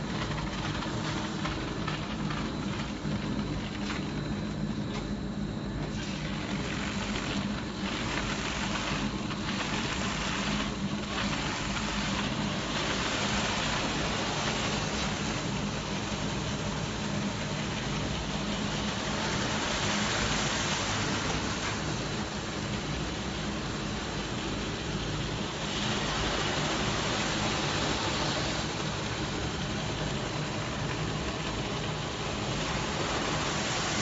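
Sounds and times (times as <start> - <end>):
motor hum: 0.0 - 34.0.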